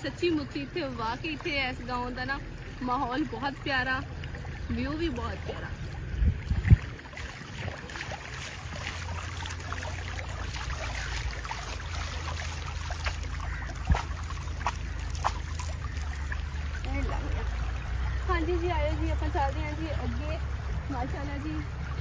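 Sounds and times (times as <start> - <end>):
steady low rumble: 0.0 - 22.0
water flowing in a channel: 0.0 - 22.0.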